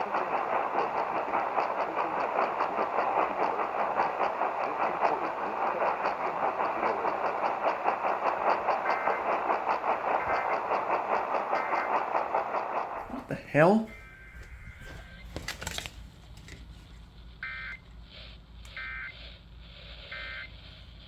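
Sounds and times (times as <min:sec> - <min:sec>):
radio static hiss pulsing: 0:00.0 - 0:15.3, 0:16.9 - 0:21.0.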